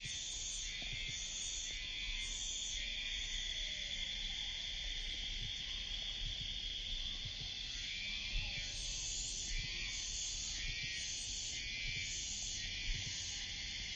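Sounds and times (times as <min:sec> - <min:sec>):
cicadas shrilling: 0:00.0 - 0:13.9
pulsing insect call: 0:00.0 - 0:13.9.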